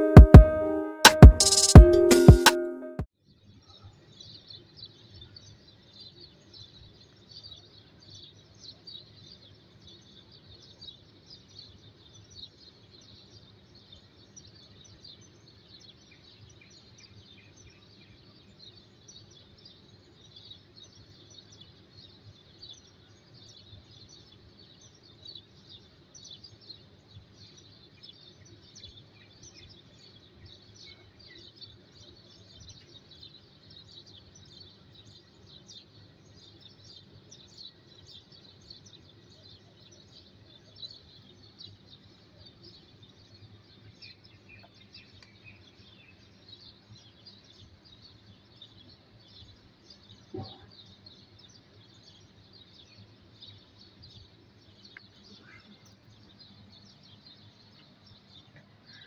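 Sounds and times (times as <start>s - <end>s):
birds chirping: 0.0s - 3.0s, 8.7s - 59.0s.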